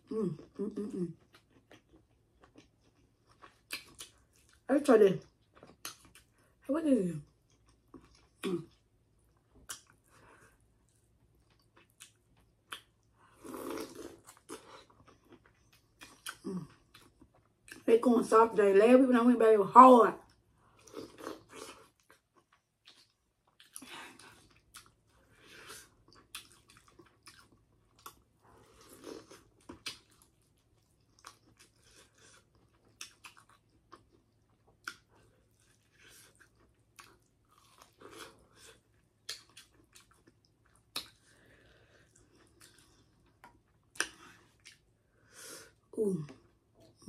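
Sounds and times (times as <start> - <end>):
person chewing shrimp: 0.4 - 6.4, 7.3 - 17.8, 20.3 - 47.0.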